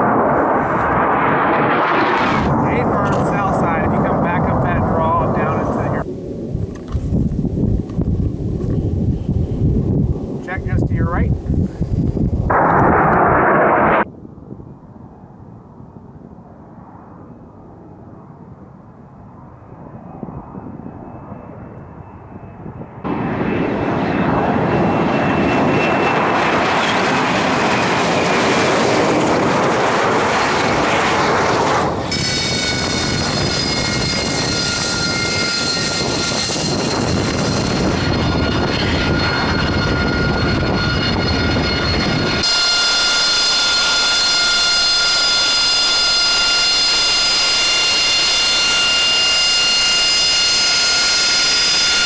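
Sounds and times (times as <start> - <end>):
distant jet sound: 0.0 - 7.2, 7.8 - 14.1, 22.9 - 52.0
loud jet engine noise: 0.0 - 52.0
turbofan high-pitched whine: 0.0 - 52.0.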